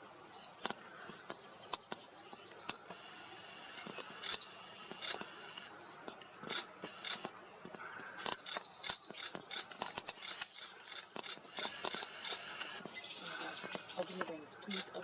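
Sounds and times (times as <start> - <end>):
small birds chirping: 0.0 - 15.0
sharp irregular clicks: 0.6 - 3.0, 3.8 - 12.9, 13.6 - 15.0.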